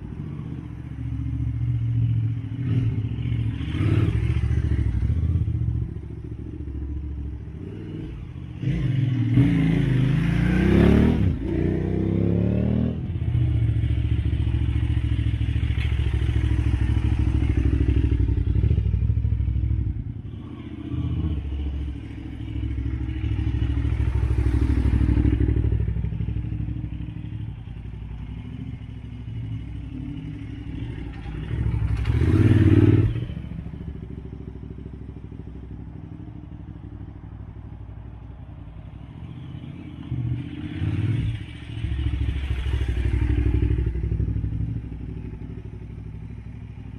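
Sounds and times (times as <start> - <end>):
motorcycle engine revving and idling: 0.0 - 46.9.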